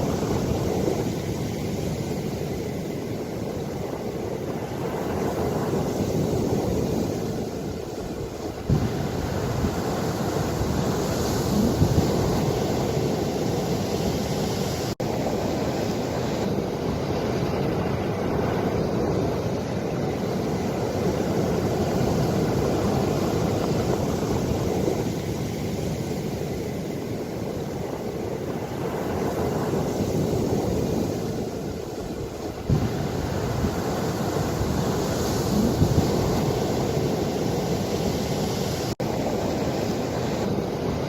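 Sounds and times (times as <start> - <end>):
ocean waves washing in: 0.0 - 41.0
wind rumbling on microphone: 0.0 - 41.0.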